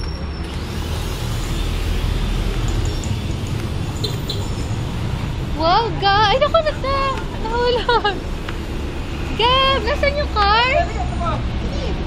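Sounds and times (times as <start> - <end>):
car passing: 0.4 - 12.0.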